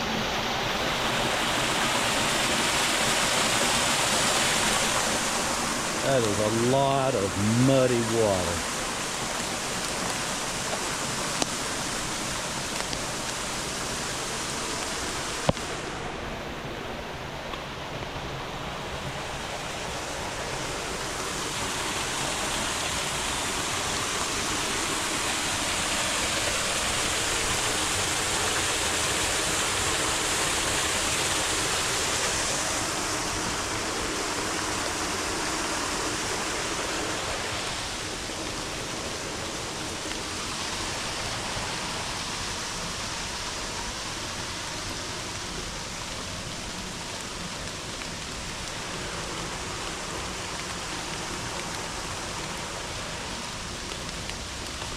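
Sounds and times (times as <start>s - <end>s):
flooded creek rushing: 0.0s - 54.9s.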